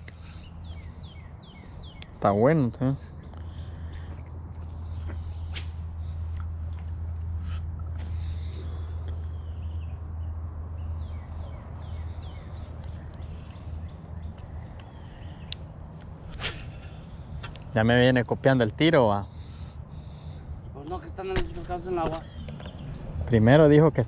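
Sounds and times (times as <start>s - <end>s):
songbirds chirping: 0.0s - 24.0s
steady low rumble: 0.0s - 24.0s.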